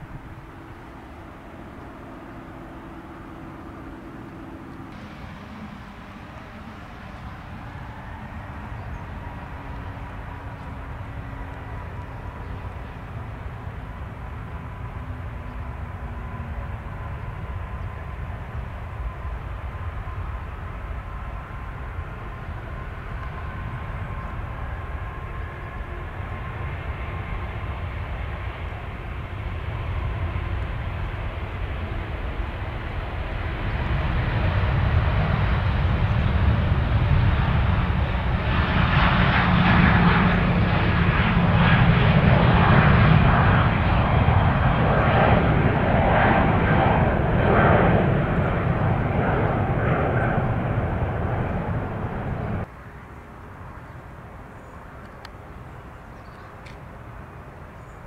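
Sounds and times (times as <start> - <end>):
jet engine roar with crackling: 0.0 - 58.0
jet engine whine: 0.0 - 58.0.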